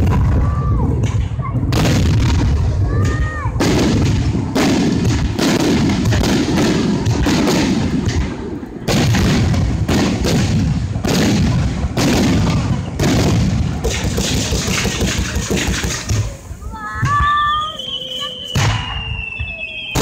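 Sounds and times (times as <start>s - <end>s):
fireworks booming: 0.0s - 20.0s.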